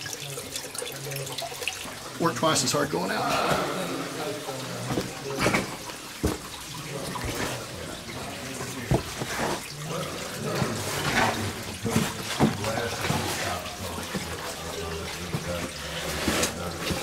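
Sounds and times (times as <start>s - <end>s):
water trickling among rocks: 0.0s - 3.2s, 4.2s - 17.0s.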